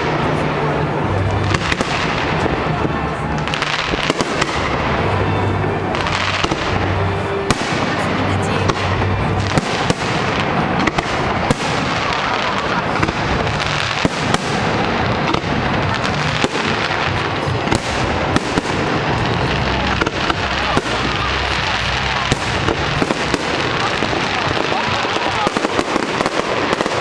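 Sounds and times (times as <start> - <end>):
dense firework crackle: 0.0 - 27.0
firework bangs: 0.0 - 27.0.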